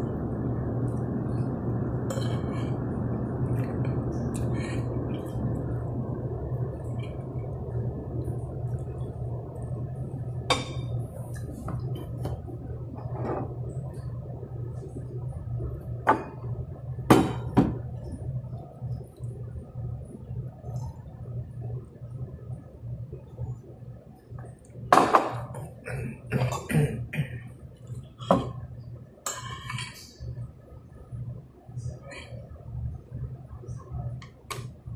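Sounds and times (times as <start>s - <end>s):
low room hum: 0.0s - 34.9s.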